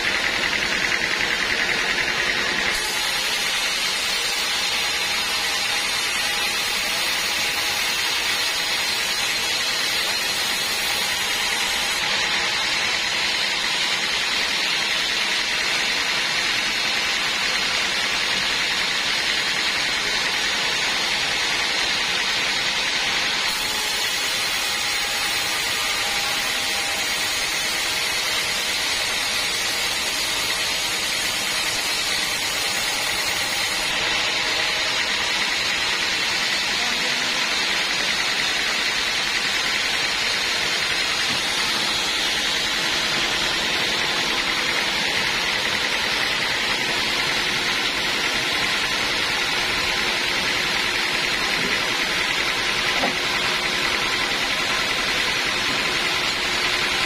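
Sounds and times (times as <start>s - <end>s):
bandsaw cutting wood: 0.0s - 57.0s.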